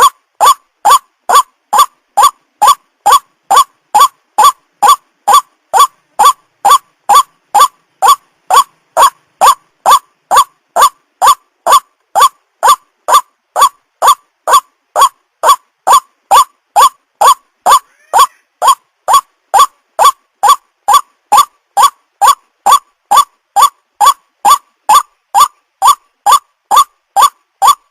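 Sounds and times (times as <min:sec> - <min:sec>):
waterhen harsh repeated call: 0:00.0 - 0:27.9.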